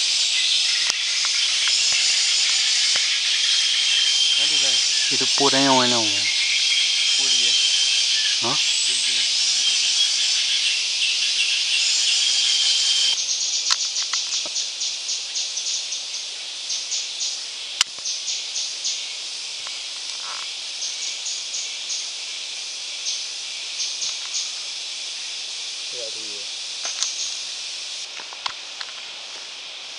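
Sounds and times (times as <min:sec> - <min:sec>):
high insect hiss: 0:00.0 - 0:29.9.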